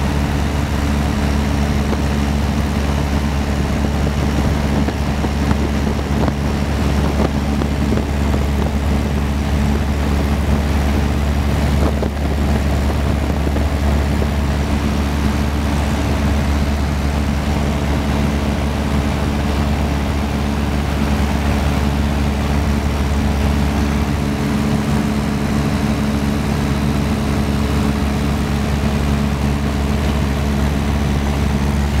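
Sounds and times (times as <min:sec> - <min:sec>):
aircraft engine and propeller droning: 0:00.0 - 0:32.0.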